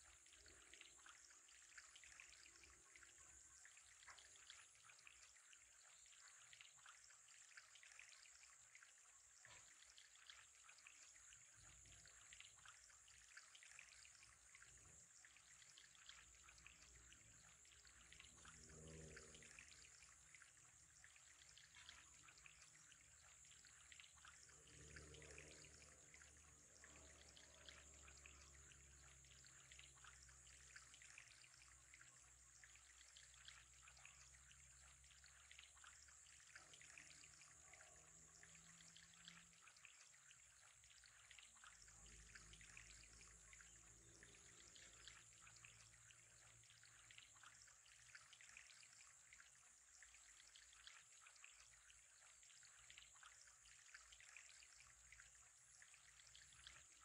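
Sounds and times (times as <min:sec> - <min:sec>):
water trickling in aquarium: 0:00.0 - 0:57.0.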